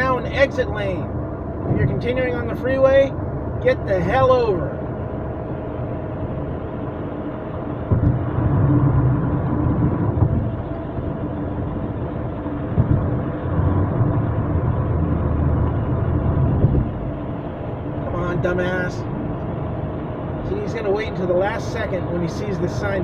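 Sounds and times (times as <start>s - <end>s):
car cabin road noise: 0.0s - 23.0s
low rumble: 0.0s - 23.0s.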